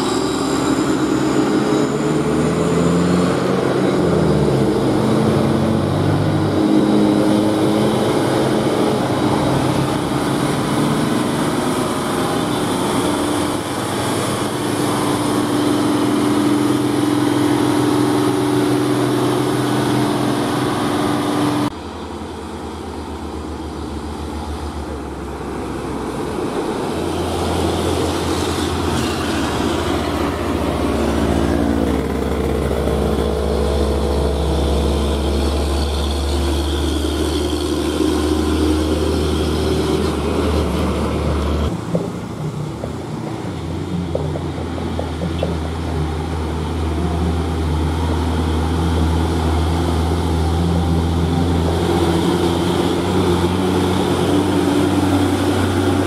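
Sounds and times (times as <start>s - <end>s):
diesel trucks driving past: 0.0s - 56.0s.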